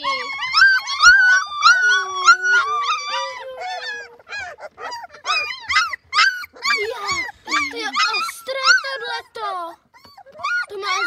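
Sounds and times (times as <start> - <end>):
puppies whining and howling: 0.0 - 11.0.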